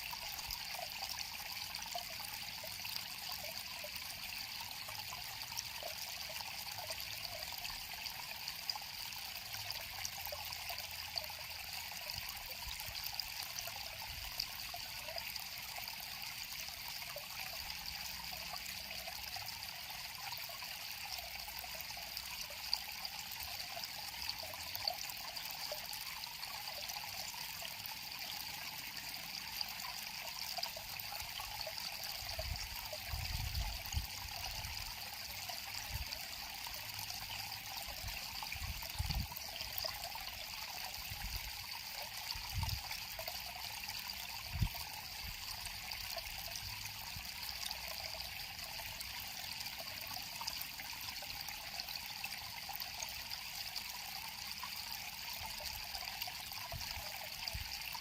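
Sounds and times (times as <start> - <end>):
river water over rocks: 7.8 - 58.0.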